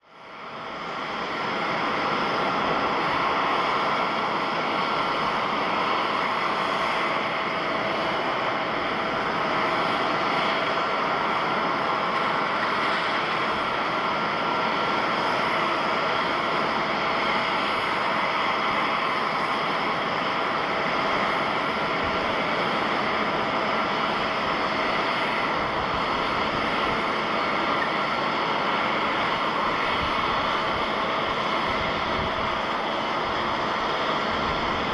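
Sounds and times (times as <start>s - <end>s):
jet engines rushing and whining: 0.0s - 34.9s.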